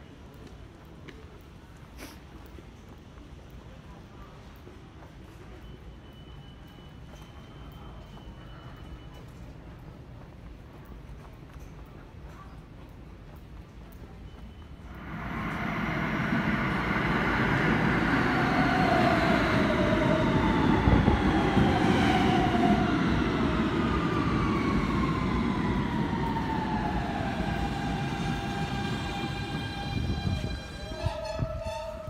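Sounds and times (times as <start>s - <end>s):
wheels rumbling on rail: 0.3s - 32.0s.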